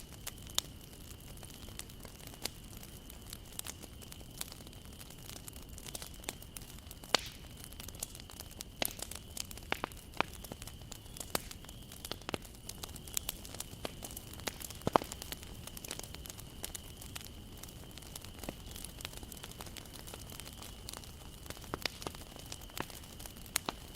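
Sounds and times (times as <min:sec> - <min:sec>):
bonfire crackling and popping: 0:00.0 - 0:23.9.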